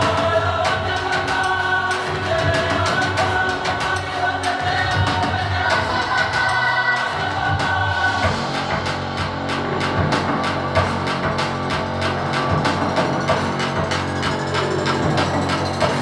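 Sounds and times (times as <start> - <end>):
heavy bass line: 0.0 - 16.0
pop music with choir-like singing: 0.0 - 16.0.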